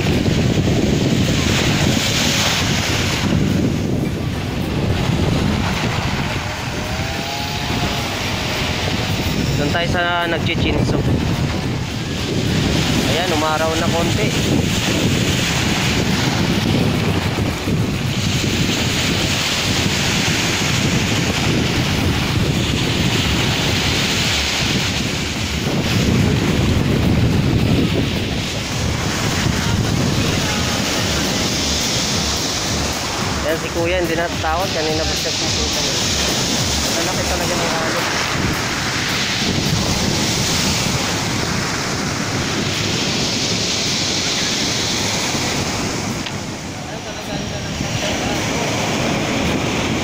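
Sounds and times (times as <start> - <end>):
waves breaking on shore: 0.0 - 50.0
wind buffeting microphone: 0.0 - 50.0.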